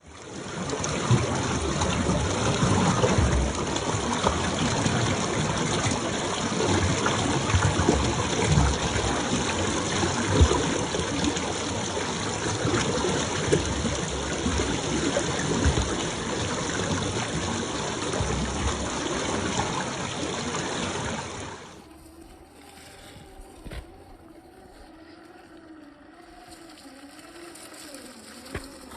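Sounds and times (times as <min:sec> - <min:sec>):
water splashing: 0:00.0 - 0:28.9.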